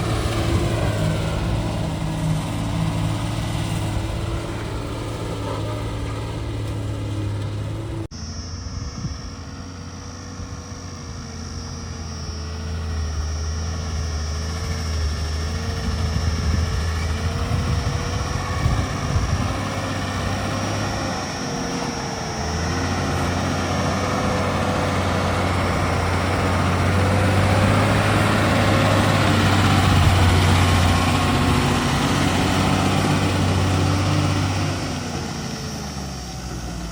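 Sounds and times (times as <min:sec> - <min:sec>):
diesel engine running: 0:00.0 - 0:36.9
thin wavering whine: 0:00.0 - 0:36.9.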